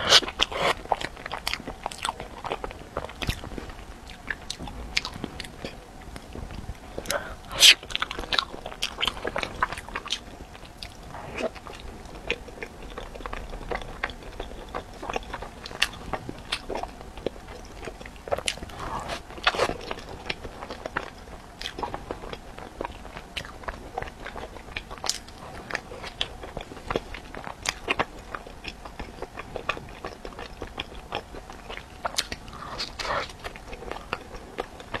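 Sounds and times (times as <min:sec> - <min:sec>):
wet chewing and mouth clicks: 0:00.0 - 0:35.0.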